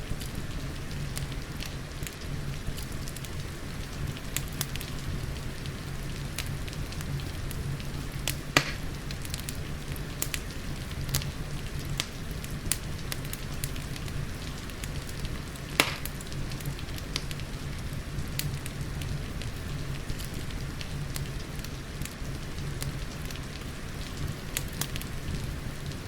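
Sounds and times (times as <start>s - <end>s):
rain hissing: 0.0s - 26.0s
wood fire crackling and popping: 0.0s - 26.0s.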